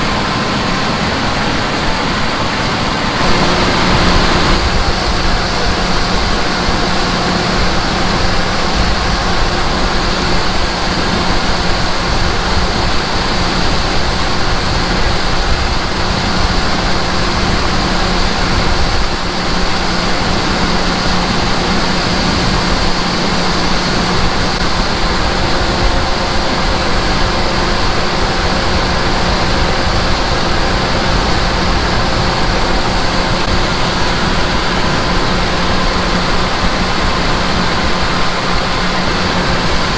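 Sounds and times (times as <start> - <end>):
farm machinery running: 0.0 - 39.9.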